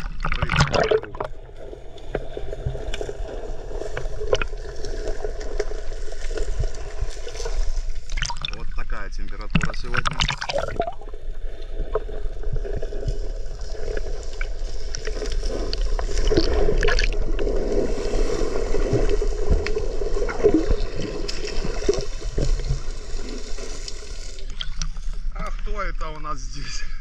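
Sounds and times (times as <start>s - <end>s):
underwater sloshing and gurgling: 0.0s - 26.9s.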